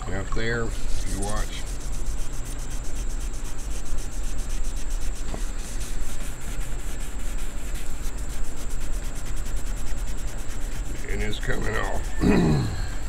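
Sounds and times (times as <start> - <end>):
scouring pad scrubbing metal: 0.1 - 12.3.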